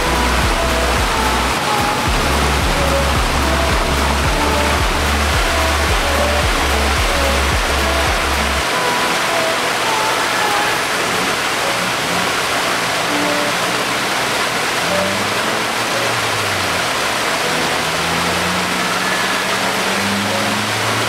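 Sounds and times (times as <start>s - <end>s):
waterfall rushing and splashing: 0.0s - 21.0s.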